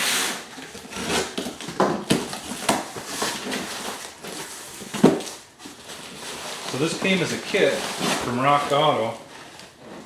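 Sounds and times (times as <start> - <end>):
cardboard rustling and scraping: 0.0 - 10.0.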